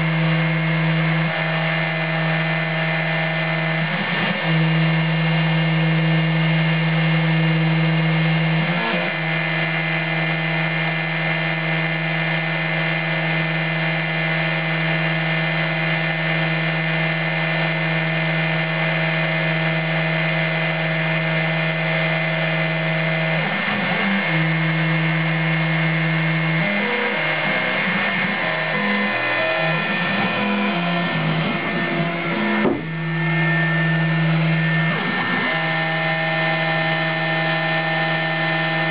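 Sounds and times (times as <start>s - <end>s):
cnc mill whining: 0.0s - 38.9s.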